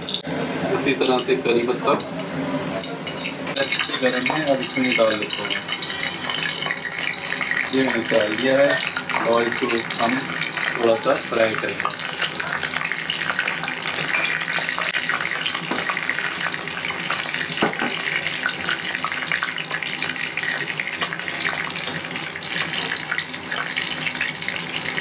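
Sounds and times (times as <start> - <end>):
spices sizzling in hot oil: 0.0 - 25.0.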